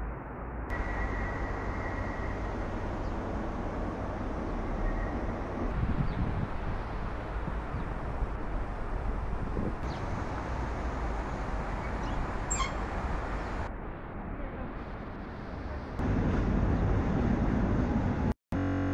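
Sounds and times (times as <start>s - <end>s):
distant traffic: 0.0s - 18.3s
steady rushing noise: 0.0s - 18.9s.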